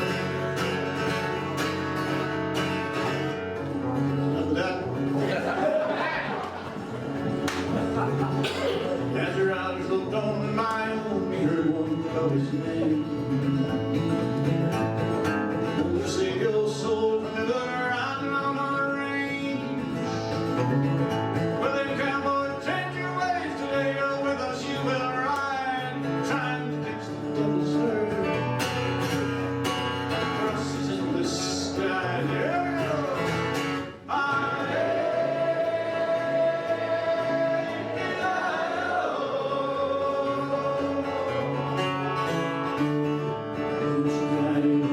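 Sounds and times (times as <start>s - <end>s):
guitar accompaniment: 0.0s - 44.9s
man singing: 3.6s - 6.4s, 7.7s - 14.5s, 15.5s - 20.8s, 21.5s - 28.7s, 30.0s - 44.9s.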